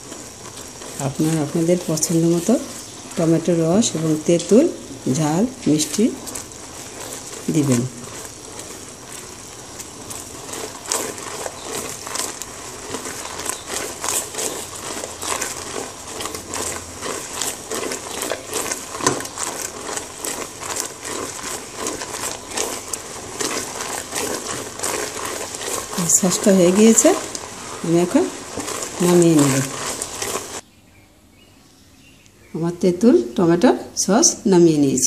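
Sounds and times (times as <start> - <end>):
sauce bubbling and spitting: 0.0 - 30.6
spatula scraping pot: 0.0 - 30.6.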